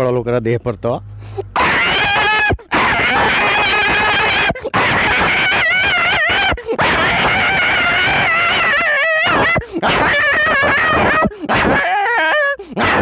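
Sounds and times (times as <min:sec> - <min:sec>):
man imitating dog yelping: 0:01.4 - 0:13.0.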